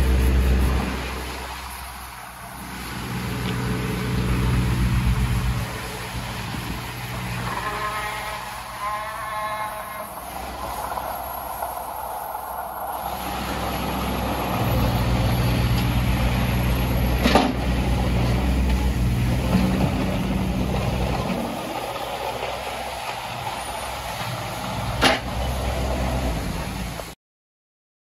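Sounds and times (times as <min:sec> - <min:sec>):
excavator diesel engine running: 0:00.0 - 0:27.2.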